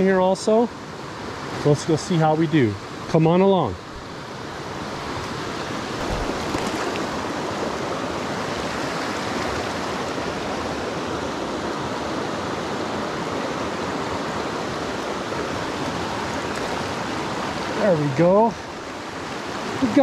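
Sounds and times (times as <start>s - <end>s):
stream rushing over stones: 0.0s - 20.0s.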